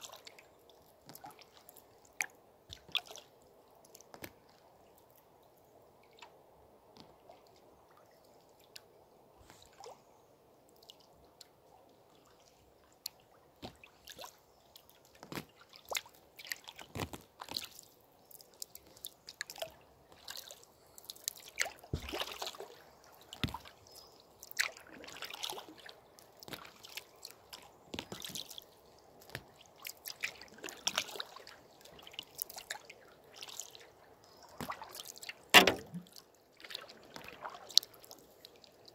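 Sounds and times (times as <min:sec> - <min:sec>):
paddle splashing and dripping: 0:00.0 - 0:05.3, 0:10.7 - 0:38.9
flowing river water: 0:00.0 - 0:38.9.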